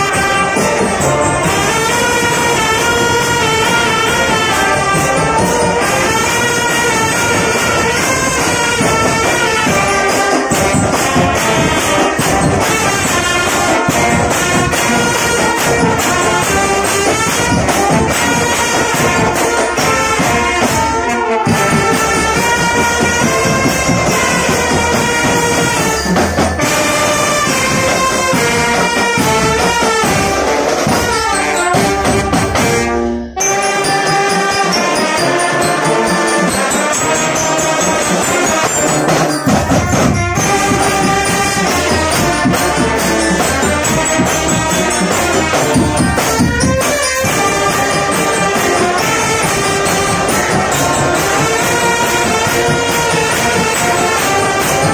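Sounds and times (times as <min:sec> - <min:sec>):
marching snare and bass drums: 0:00.0 - 0:33.0, 0:33.6 - 0:54.9
trumpets: 0:00.0 - 0:54.9.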